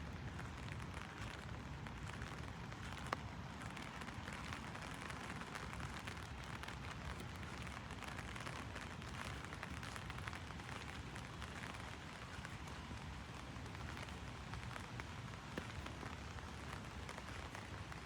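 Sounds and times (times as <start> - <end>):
heavy rain on an umbrella: 0.0 - 18.0.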